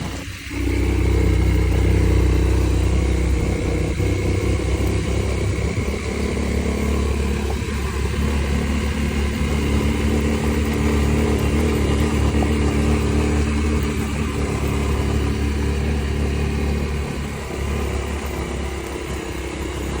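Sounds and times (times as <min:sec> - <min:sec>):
road and wind noise: 0:00.0 - 0:20.0
vehicle engine running: 0:00.0 - 0:20.0.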